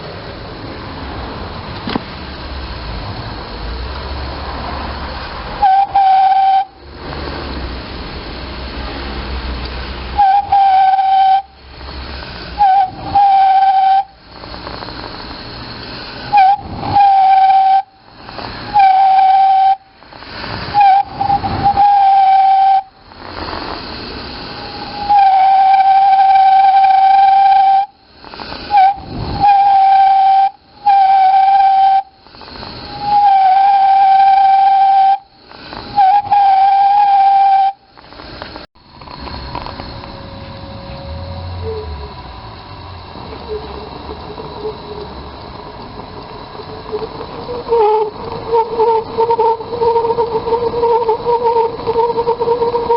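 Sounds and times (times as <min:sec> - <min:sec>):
burner hiss: 0:00.0 - 0:52.9
heater burner whistling: 0:02.3 - 0:52.9.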